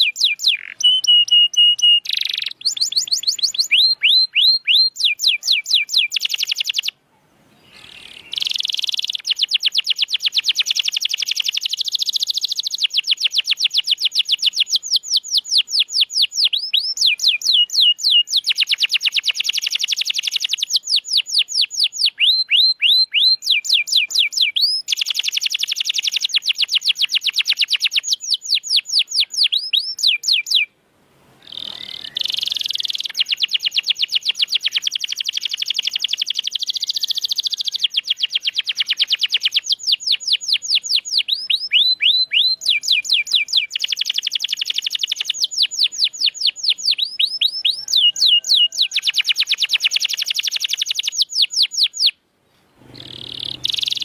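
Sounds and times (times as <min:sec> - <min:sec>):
canary singing trills: 0:00.0 - 0:30.7, 0:31.4 - 0:52.2, 0:52.9 - 0:54.0.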